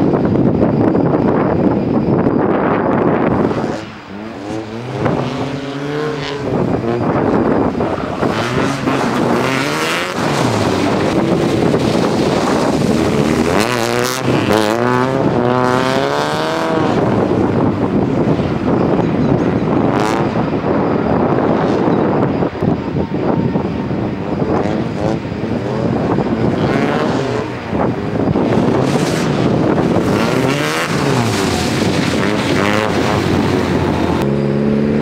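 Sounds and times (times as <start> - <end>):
wind on microphone: 0.0 - 35.0
car engine revving: 2.5 - 35.0.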